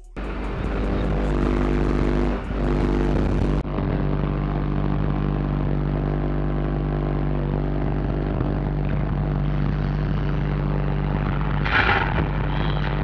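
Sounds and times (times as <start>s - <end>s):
subwoofer bass drone: 0.0s - 13.0s.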